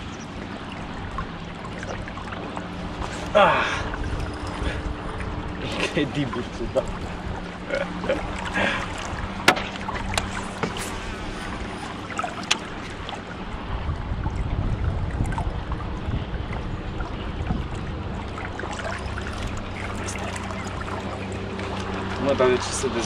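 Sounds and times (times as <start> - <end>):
low hum: 0.0 - 23.0
water around boat: 0.0 - 23.0
wind: 0.0 - 23.0.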